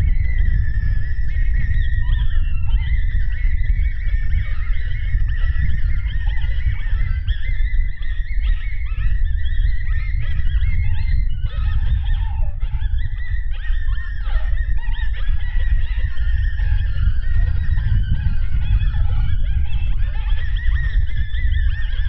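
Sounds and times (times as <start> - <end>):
chorus of animal calls: 0.0 - 22.0
wind buffeting microphone: 0.0 - 22.0.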